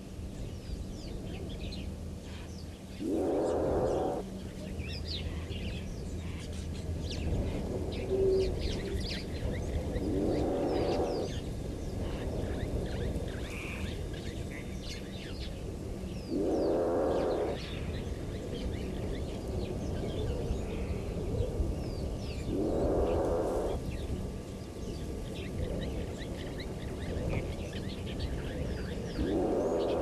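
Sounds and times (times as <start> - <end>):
low rough noisy sound: 0.0 - 30.0
small birds chirping: 0.4 - 30.0.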